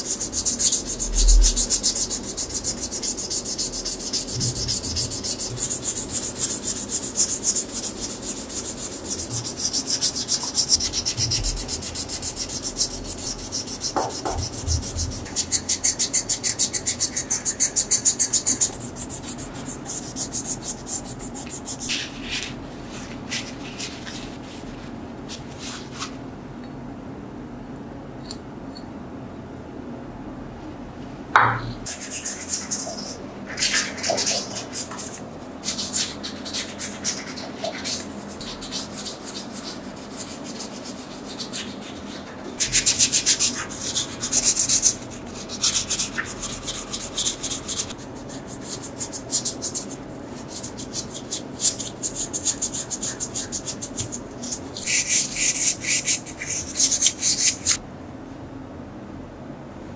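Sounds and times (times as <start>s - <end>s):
sandpaper rubbing on metal: 0.0s - 22.5s, 31.9s - 57.8s.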